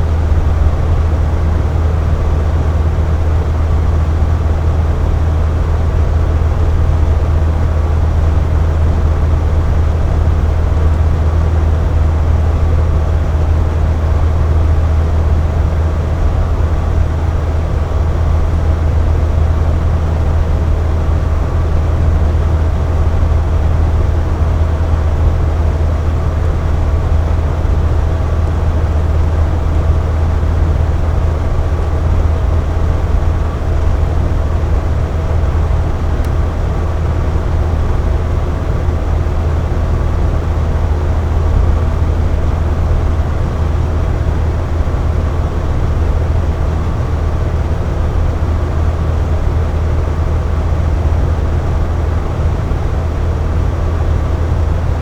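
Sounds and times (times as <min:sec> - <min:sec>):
air conditioner humming: 0:00.0 - 0:55.0.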